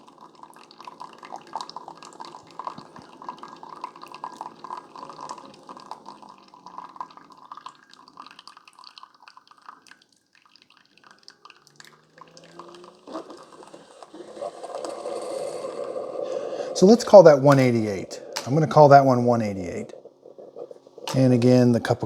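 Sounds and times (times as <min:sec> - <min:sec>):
coffee stream splashing into cup: 0:00.0 - 0:22.0.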